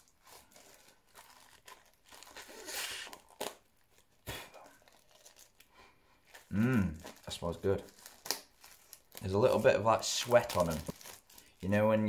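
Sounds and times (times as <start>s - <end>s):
plastic tearing rasp: 0.0s - 5.6s, 6.3s - 11.6s
plastic packaging crinkling: 0.0s - 12.0s.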